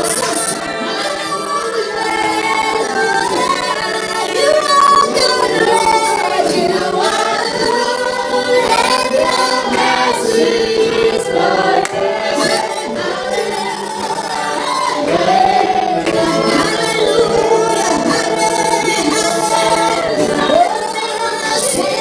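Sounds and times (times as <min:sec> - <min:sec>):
group singing a chant: 0:00.0 - 0:22.0.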